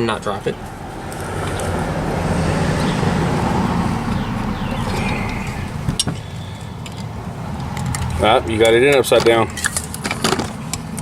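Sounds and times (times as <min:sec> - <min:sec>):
vehicle passing by: 0:00.0 - 0:08.9.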